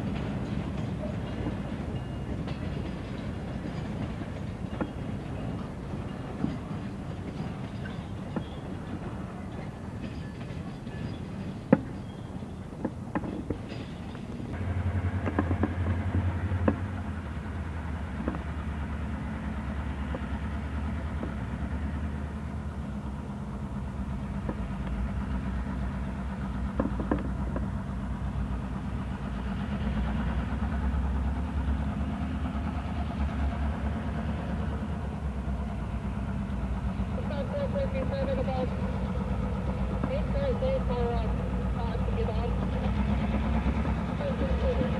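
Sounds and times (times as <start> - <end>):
diesel locomotive engine drone: 0.0 - 44.9.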